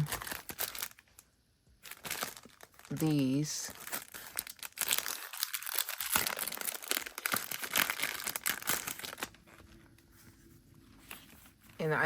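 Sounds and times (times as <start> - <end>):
packaging crinkling: 0.0 - 10.2.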